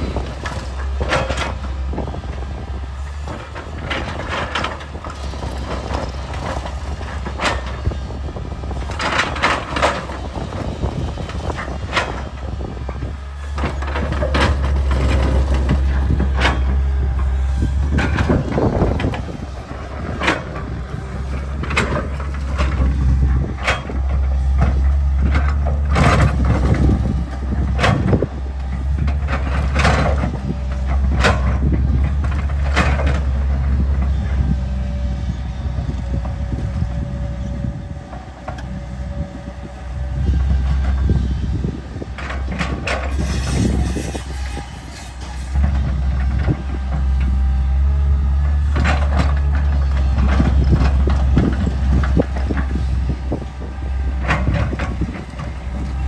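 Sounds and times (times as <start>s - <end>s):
diesel engine running: 0.0s - 56.0s
excavator bucket scraping rock: 3.3s - 34.5s, 40.2s - 47.4s, 48.6s - 56.0s.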